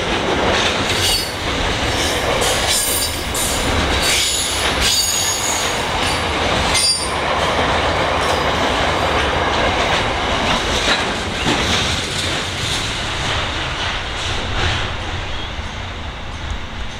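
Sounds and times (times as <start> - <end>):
freight train wheels rumbling: 0.0 - 16.9.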